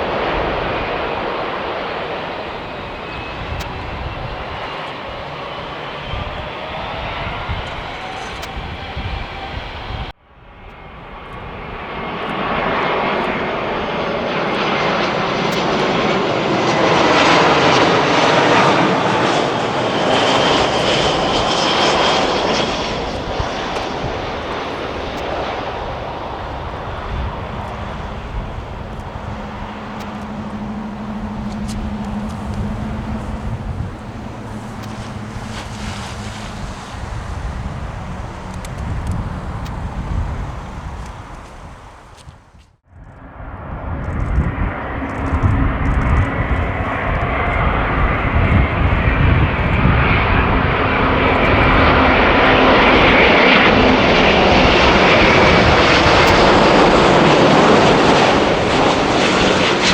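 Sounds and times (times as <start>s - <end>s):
jet airliner engines passing: 0.0s - 59.9s.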